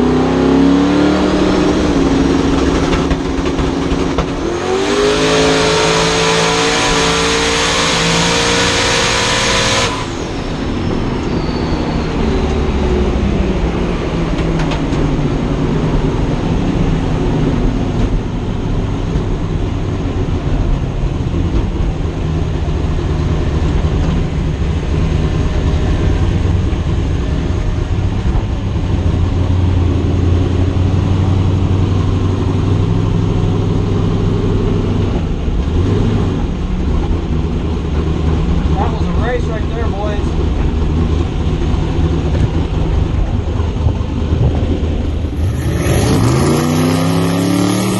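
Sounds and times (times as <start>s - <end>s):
engine running low: 0.0s - 47.9s
race car engine at full throttle: 0.0s - 47.9s.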